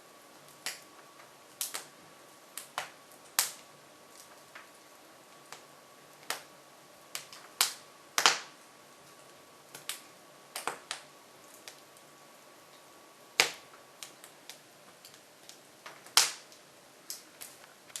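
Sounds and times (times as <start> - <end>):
logs crackling in wood stove: 0.0 - 18.0.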